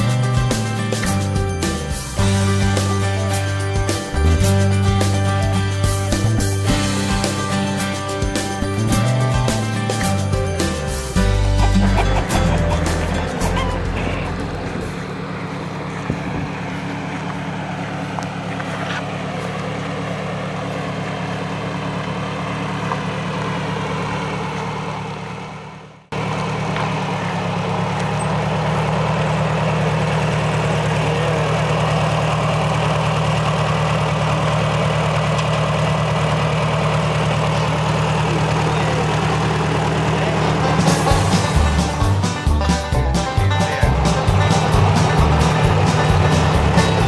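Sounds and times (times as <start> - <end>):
engine humming: 0.0 - 47.0.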